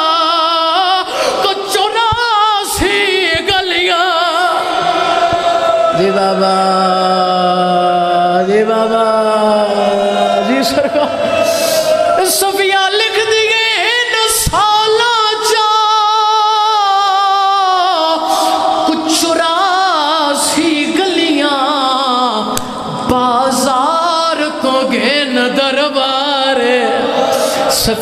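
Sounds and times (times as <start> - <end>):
man singing unaccompanied lament: 0.0 - 11.3, 11.9 - 28.0.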